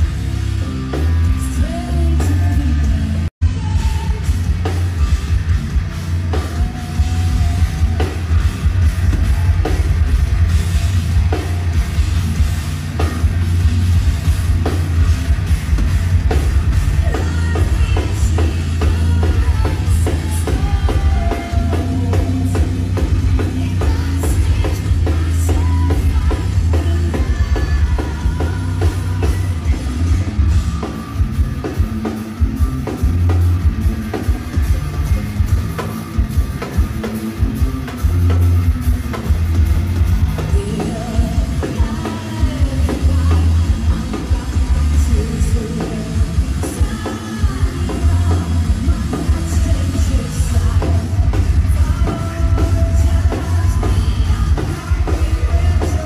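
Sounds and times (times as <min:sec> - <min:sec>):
singer's voice: 0:00.0 - 0:10.3, 0:16.3 - 0:56.0
metal band playing live: 0:00.0 - 0:56.0.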